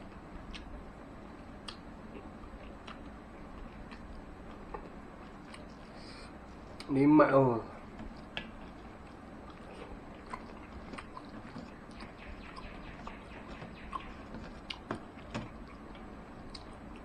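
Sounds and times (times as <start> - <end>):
person chewing with lip smacks: 1.6 - 6.9, 7.8 - 17.0.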